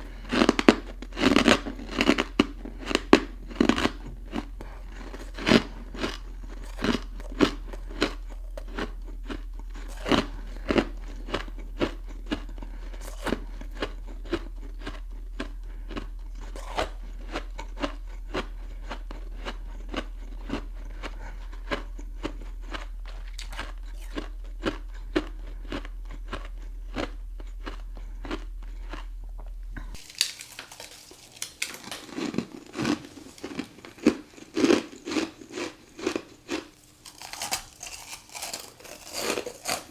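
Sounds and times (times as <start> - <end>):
faint low hum: 0.0 - 39.9
ice crunching being chewed: 0.0 - 39.9.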